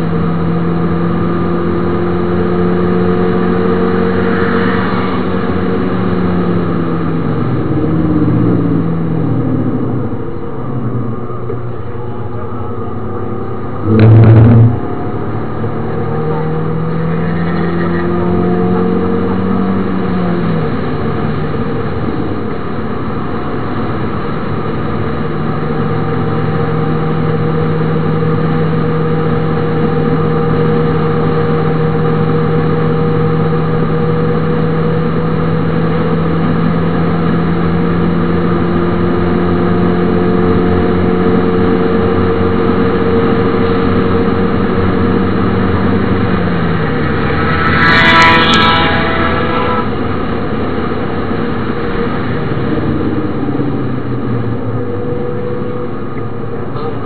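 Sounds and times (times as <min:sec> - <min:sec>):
car engine revving: 0:00.0 - 0:57.0
tyre and road noise: 0:00.0 - 0:57.0.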